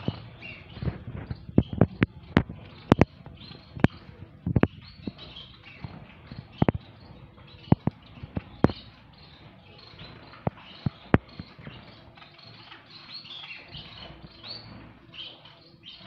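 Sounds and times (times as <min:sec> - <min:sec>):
finches chirping softly: 0:00.0 - 0:16.0.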